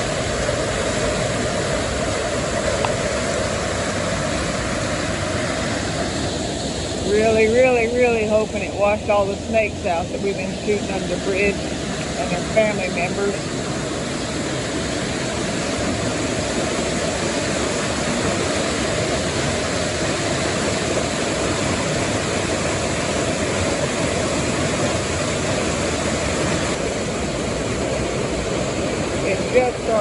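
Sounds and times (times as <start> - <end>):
floodwater rushing over bridge: 0.0 - 30.0.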